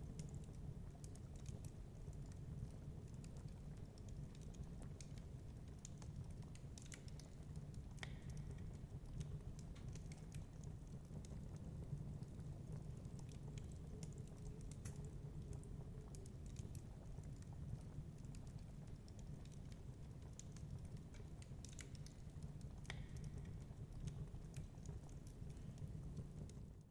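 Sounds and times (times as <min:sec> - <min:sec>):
low fire rumble: 0:00.0 - 0:26.9
wood fire snapping and popping: 0:00.0 - 0:26.9.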